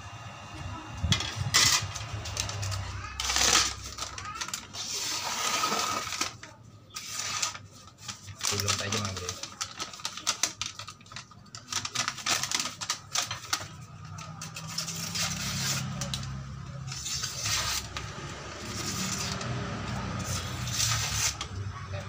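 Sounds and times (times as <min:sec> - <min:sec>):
paper crinkling and tearing: 0:01.4 - 0:21.7.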